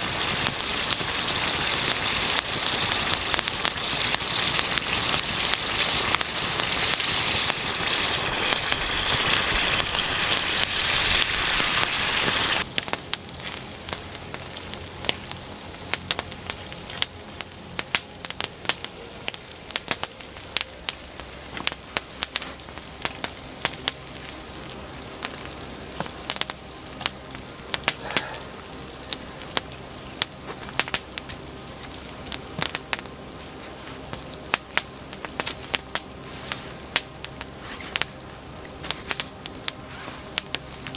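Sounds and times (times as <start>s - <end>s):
campfire crackling and popping: 0.0s - 40.9s
loud steady hiss: 0.0s - 40.9s.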